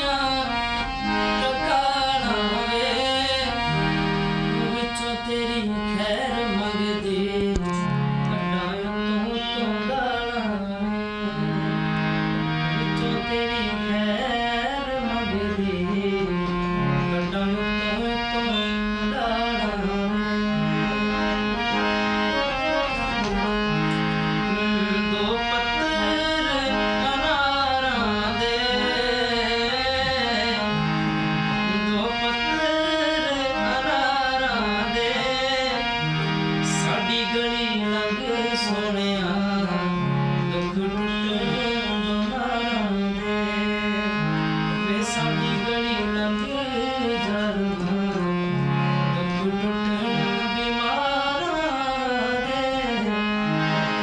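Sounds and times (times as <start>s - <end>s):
man singing: 0.0s - 3.9s, 4.5s - 11.8s, 12.6s - 54.0s
harmonium drone: 0.0s - 54.0s.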